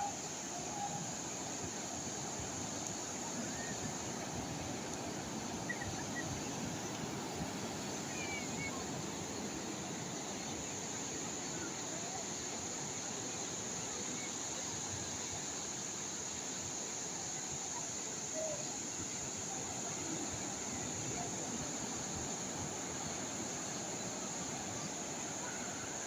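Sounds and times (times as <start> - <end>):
calm sea waves: 0.0 - 26.0.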